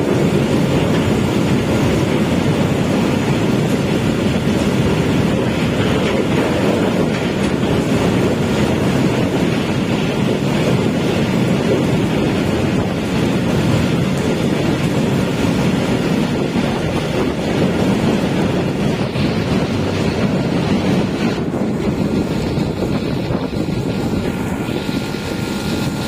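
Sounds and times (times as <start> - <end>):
freight train wheels rumbling: 0.0 - 26.0
heavy rain hiss: 0.0 - 26.0.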